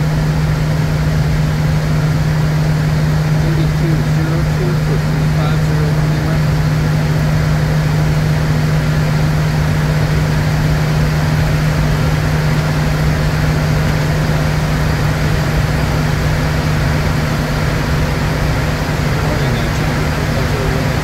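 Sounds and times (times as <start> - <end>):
jet engine noise: 0.0 - 21.0.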